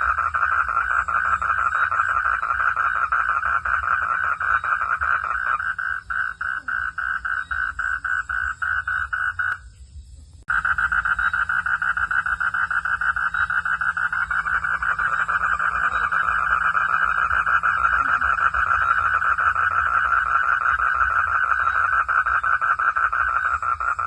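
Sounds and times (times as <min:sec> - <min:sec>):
frogs calling in chorus: 0:00.0 - 0:09.8, 0:10.5 - 0:24.0.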